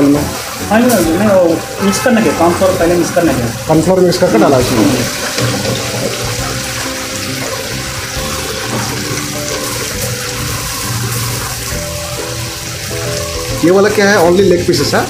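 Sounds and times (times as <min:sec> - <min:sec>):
hot oil bubbling and hissing: 0:00.0 - 0:15.0.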